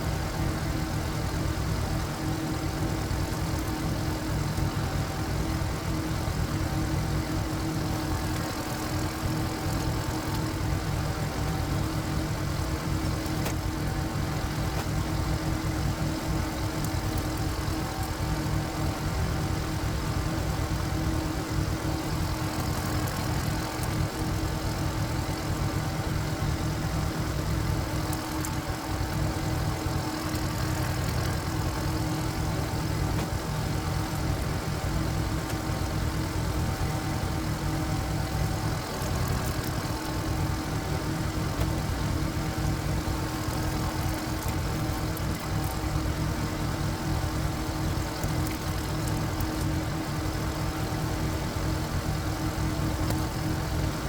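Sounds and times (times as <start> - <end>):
diesel tiller engine running: 0.0 - 54.0.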